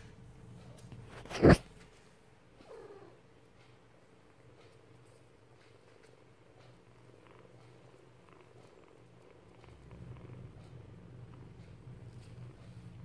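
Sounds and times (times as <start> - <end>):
cat purring: 0.5 - 1.8, 2.5 - 13.0.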